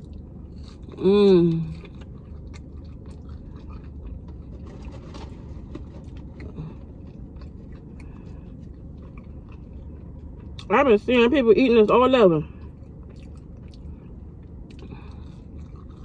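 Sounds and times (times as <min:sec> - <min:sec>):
person chewing food: 0:00.0 - 0:10.7, 0:12.5 - 0:16.0
steady low hum: 0:00.0 - 0:16.0.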